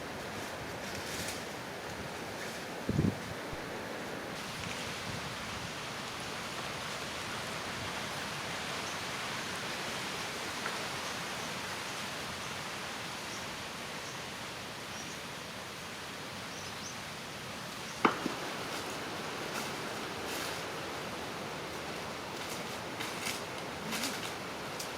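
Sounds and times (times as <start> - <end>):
outdoor background hiss: 0.0 - 24.9.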